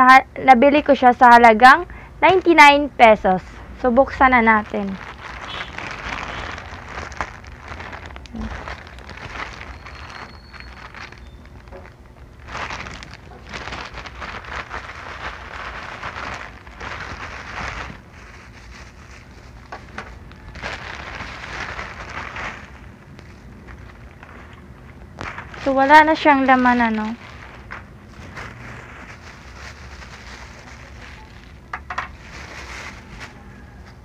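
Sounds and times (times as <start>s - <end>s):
plastic packaging crinkling: 4.1s - 34.0s.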